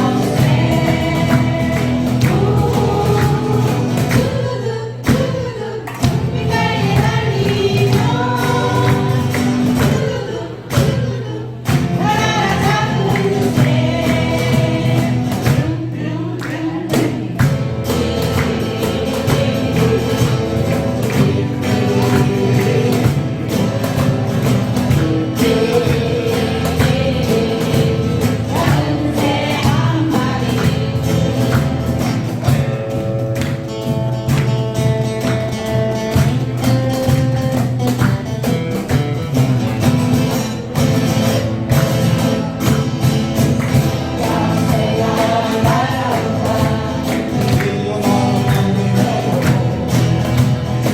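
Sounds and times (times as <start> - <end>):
group singing: 0.0 - 33.7, 40.1 - 50.9
acoustic guitars strumming: 0.0 - 50.9.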